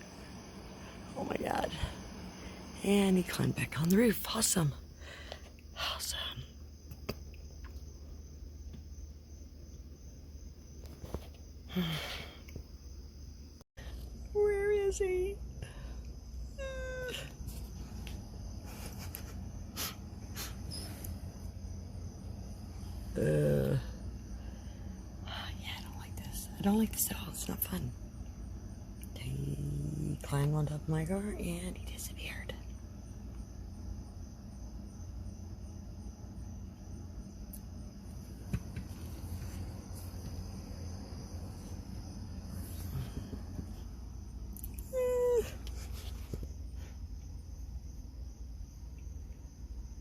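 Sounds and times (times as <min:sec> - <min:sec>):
crickets chirring: 0:00.0 - 0:50.0
low steady hum: 0:00.0 - 0:50.0.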